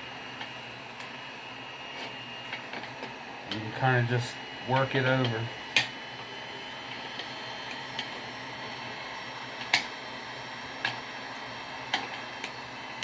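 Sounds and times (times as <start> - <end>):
heat gun hissing: 0.0 - 13.0.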